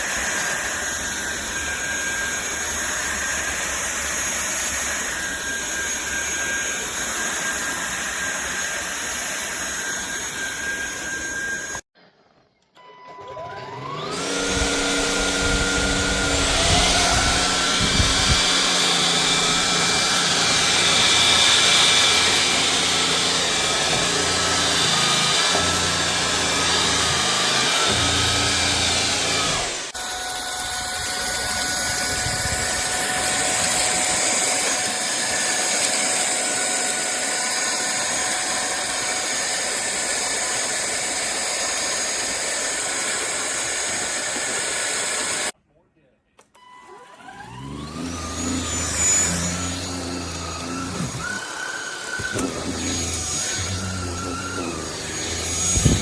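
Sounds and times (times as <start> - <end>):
vacuum cleaner motor whining: 0.0 - 11.9, 12.8 - 45.6, 46.6 - 56.0.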